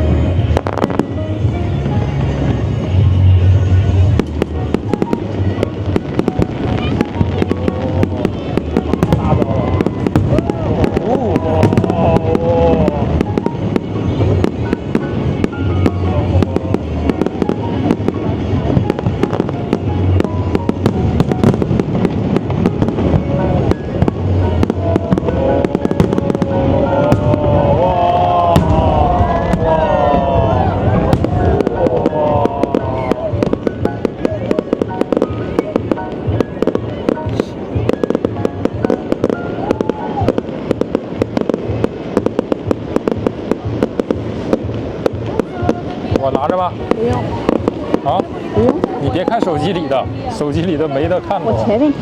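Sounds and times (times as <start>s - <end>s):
fireworks bangs and crackles: 0.0s - 52.0s
low rumbling booms: 0.0s - 52.0s
music playing: 0.0s - 52.0s.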